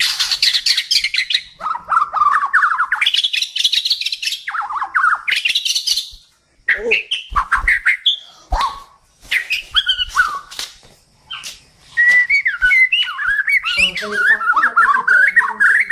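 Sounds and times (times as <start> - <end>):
bird singing whistled phrases: 0.0 - 10.7, 11.3 - 15.9.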